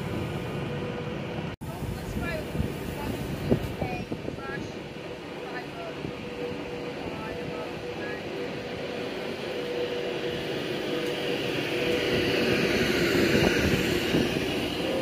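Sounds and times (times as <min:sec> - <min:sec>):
electric train whine: 0:00.0 - 0:15.0
wheel and rail noise: 0:00.0 - 0:15.0.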